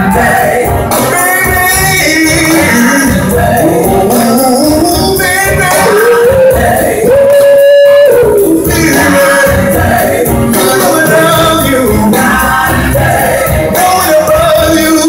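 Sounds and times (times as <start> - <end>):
people singing: 0.0 - 15.0
soul blues band playing: 0.0 - 15.0.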